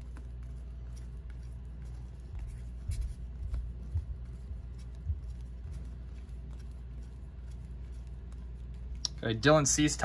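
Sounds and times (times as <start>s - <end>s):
soft low thumps: 0.0s - 9.2s
steady low hum: 0.0s - 10.0s.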